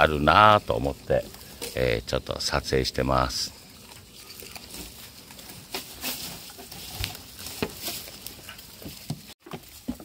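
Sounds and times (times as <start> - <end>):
goats chewing leaves: 0.0 - 10.0.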